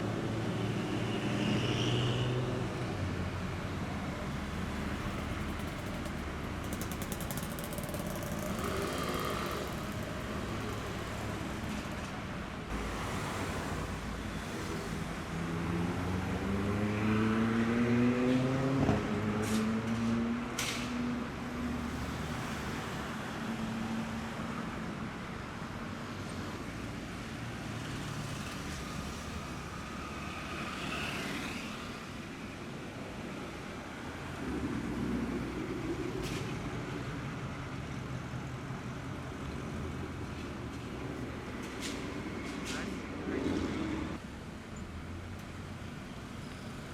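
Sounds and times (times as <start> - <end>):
road noise: 0.0 - 46.9.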